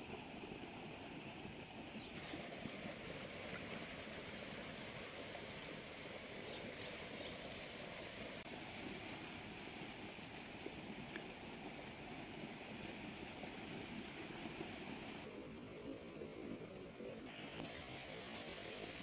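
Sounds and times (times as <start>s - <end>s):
water rushing down a channel: 0.0s - 19.0s.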